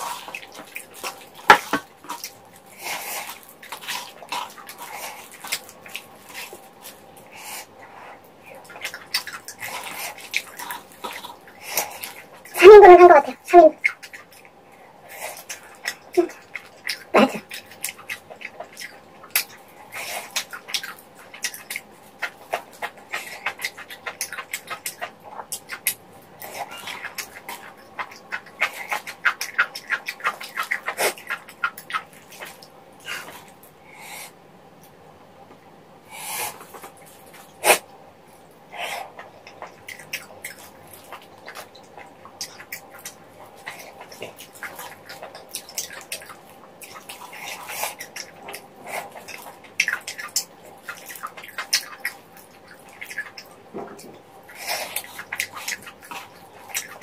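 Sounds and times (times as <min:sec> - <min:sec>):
lip-smacking: 0:00.0 - 0:34.4, 0:38.7 - 0:57.0
wet chewing: 0:00.0 - 0:35.0, 0:36.1 - 0:57.0.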